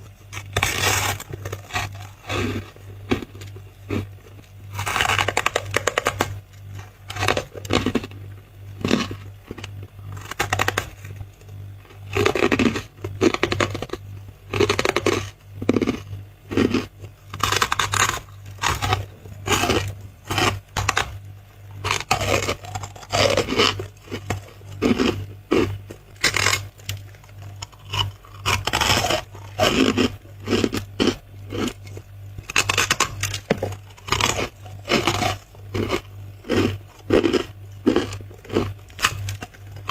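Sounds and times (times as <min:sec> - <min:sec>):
steady low hum: 0:00.0 - 0:39.9
crunching bites into frost: 0:00.3 - 0:08.2, 0:08.8 - 0:11.3, 0:11.9 - 0:39.9.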